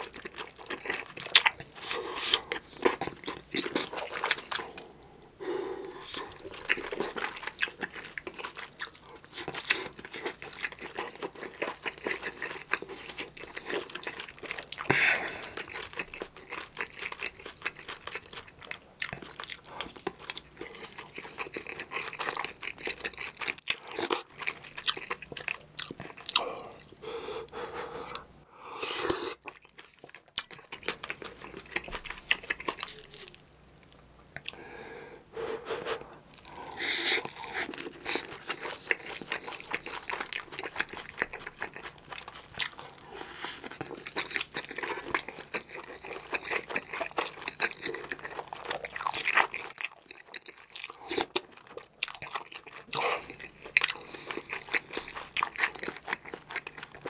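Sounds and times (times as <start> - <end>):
wet chewing and crunching: 0.0 - 28.3, 29.0 - 34.6, 36.3 - 57.0.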